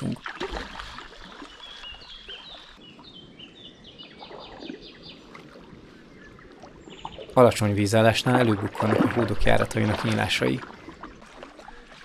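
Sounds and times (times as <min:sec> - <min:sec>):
paddles dipping in water: 0:00.0 - 0:12.0.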